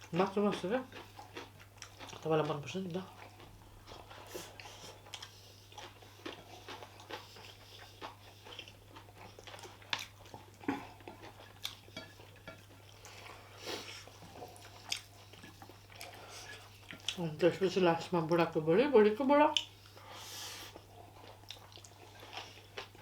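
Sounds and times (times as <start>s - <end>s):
close chewing: 0.0s - 18.6s, 19.5s - 23.0s.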